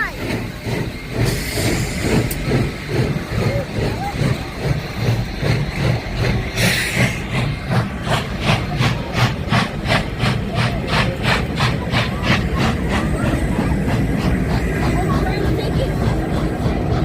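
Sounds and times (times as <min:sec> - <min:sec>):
steam hissing: 0:00.0 - 0:17.0
steam locomotive chuffing: 0:00.0 - 0:17.0.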